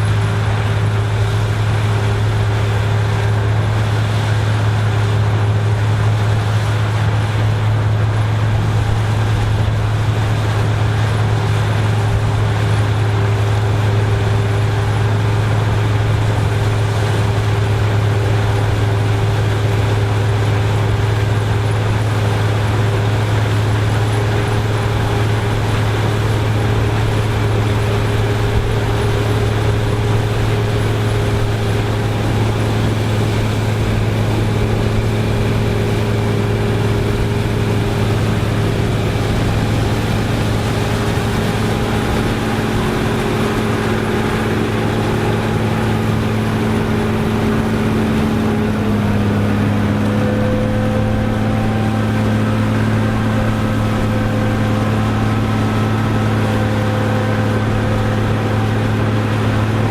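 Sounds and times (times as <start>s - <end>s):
farm machinery engine running: 0.0s - 59.9s.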